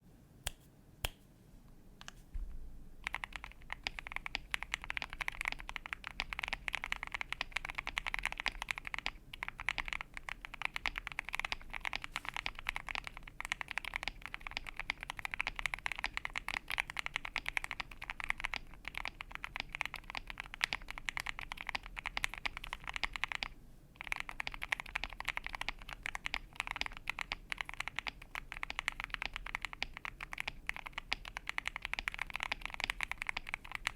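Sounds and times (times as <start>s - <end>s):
fast typing on keyboard: 3.0s - 33.9s.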